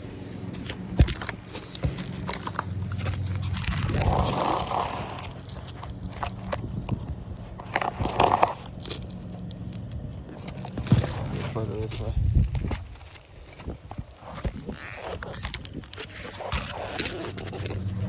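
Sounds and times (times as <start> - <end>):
handling clicks and knocks: 0.4 - 18.0.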